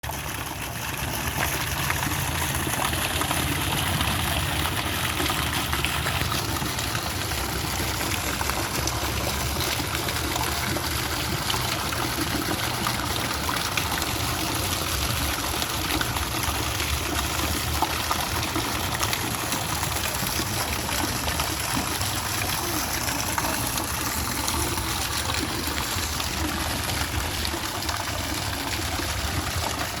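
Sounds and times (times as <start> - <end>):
water fountain splashing: 0.0 - 30.0.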